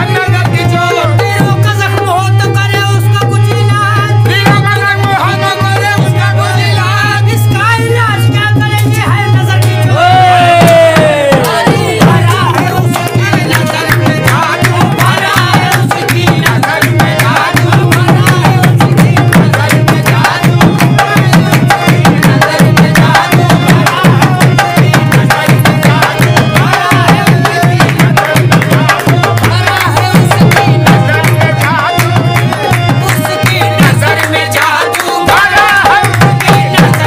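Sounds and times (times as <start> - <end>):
tabla drumming: 0.0 - 37.0
voices singing: 0.0 - 37.0.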